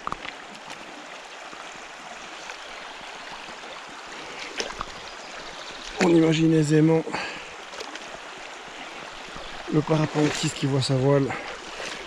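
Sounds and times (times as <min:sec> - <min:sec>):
river running over stones: 0:00.0 - 0:12.0.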